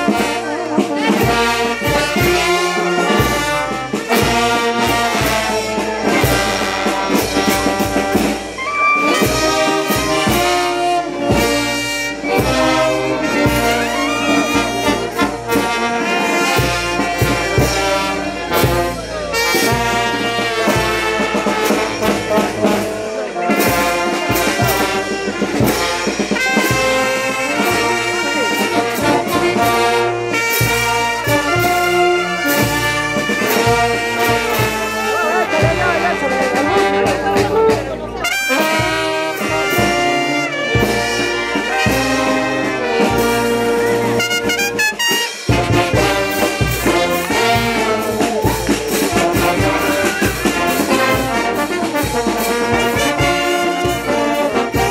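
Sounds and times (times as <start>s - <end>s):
brass band playing: 0.0s - 54.9s.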